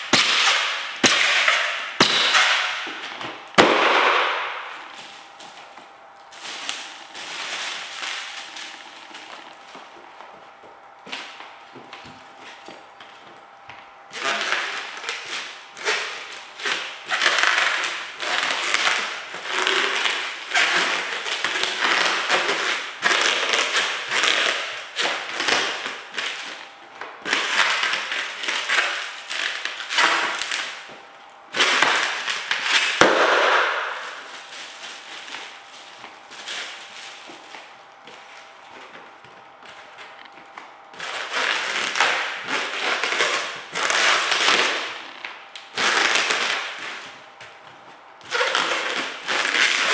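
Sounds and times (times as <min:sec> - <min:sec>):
foil balloons crinkling under feet: 0:00.1 - 0:49.9.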